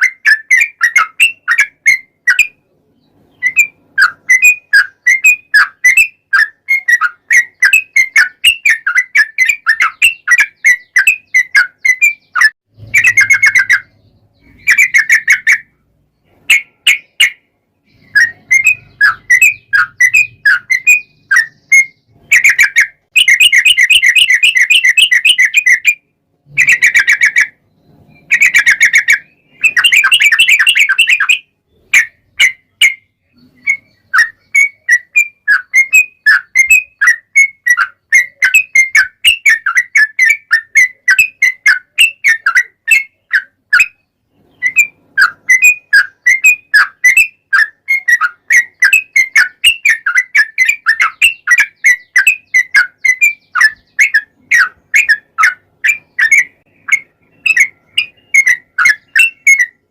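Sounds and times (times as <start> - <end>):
bird singing rapid trills: 0.0 - 59.9.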